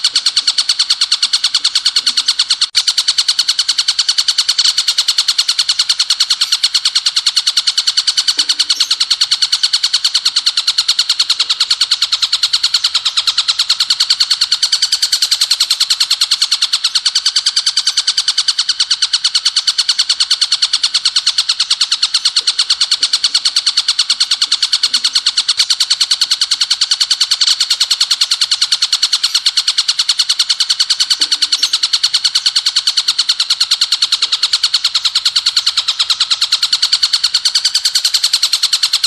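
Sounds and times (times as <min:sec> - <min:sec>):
bird singing fast trill: 0:00.0 - 0:39.0.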